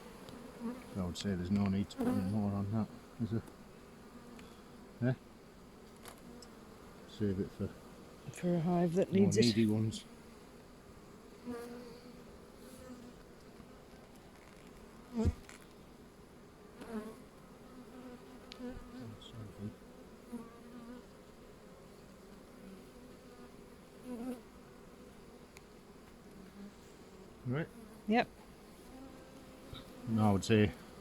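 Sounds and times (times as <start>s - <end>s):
honeybees humming: 0.0s - 31.0s.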